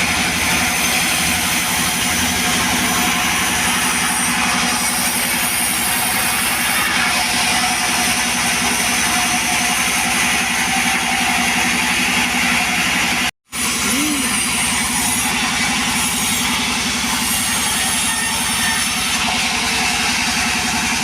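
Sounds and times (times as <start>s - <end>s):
chainsaw engine running: 0.0s - 21.0s.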